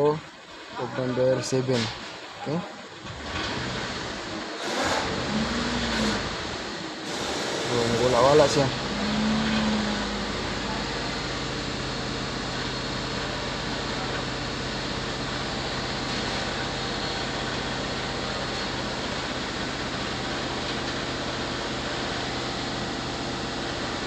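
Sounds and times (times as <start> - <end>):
engine idling with misfire: 0.0 - 24.0.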